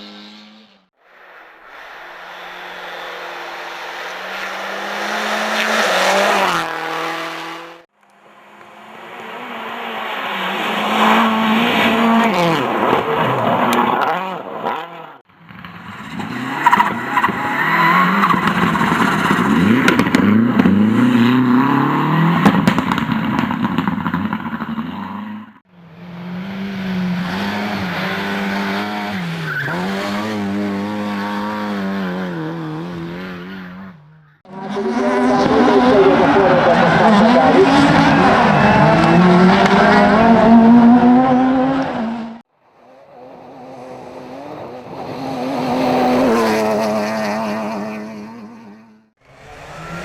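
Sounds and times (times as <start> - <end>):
racing car engines at high revs: 0.0 - 50.0.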